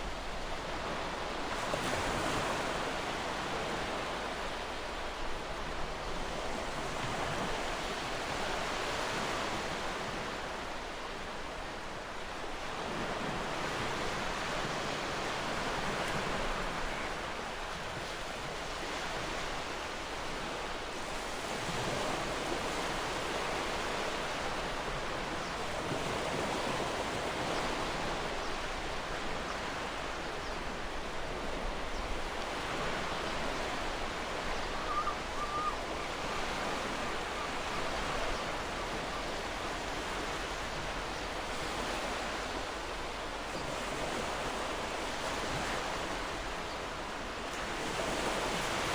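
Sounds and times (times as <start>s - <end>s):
ocean waves washing ashore: 0.0s - 48.9s.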